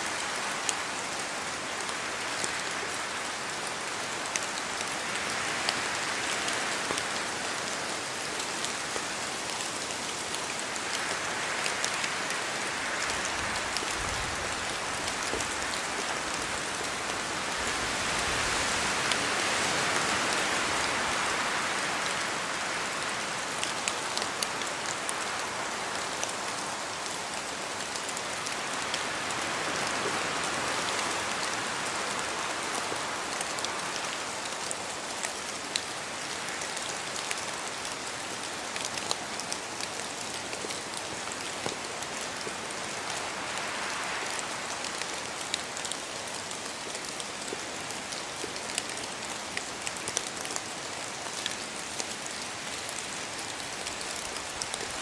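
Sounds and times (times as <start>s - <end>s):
rain in a forest: 0.0s - 55.0s.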